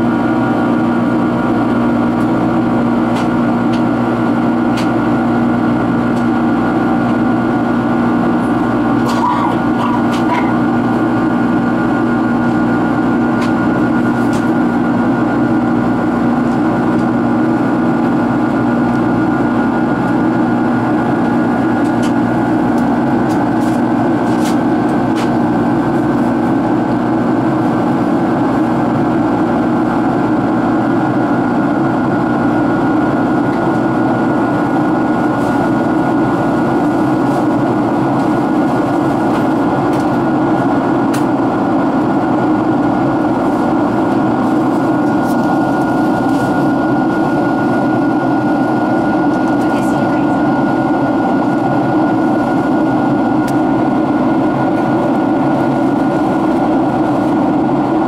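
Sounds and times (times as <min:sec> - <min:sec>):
high hum: 0:00.0 - 0:58.0
jet engine drone in cabin: 0:00.0 - 0:58.0.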